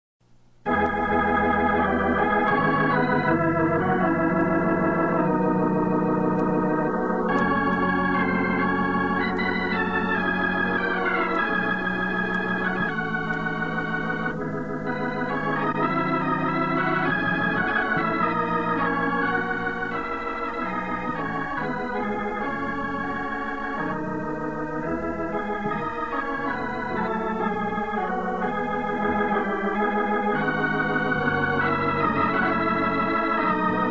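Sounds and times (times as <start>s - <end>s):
organ playing slow chords: 0.6s - 33.9s.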